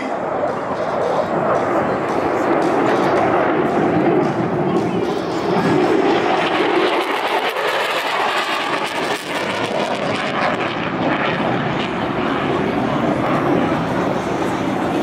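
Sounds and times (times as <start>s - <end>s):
jet passing: 0.0s - 15.0s.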